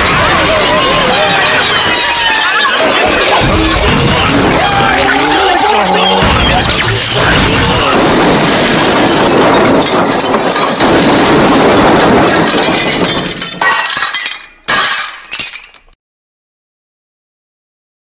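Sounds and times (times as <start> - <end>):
cartoon crash smashing and clattering: 0.0 - 16.0.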